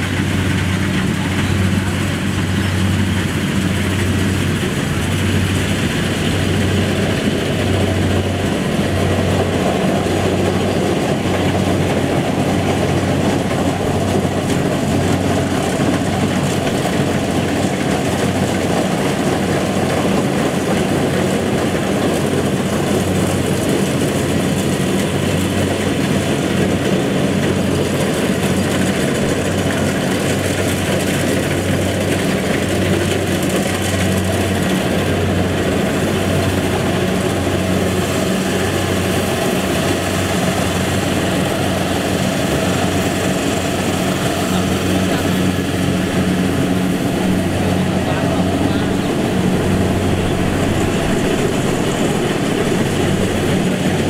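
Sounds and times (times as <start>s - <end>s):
diesel engine hum: 0.0s - 54.0s.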